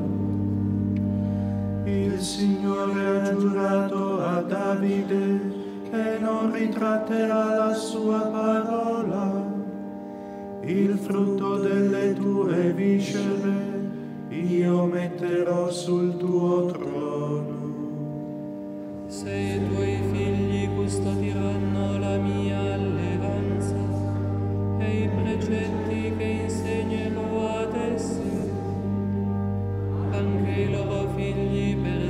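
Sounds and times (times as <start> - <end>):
held accompanying chords: 0.0 - 32.0
person chanting a psalm: 1.8 - 9.8, 10.6 - 18.1, 18.9 - 32.0.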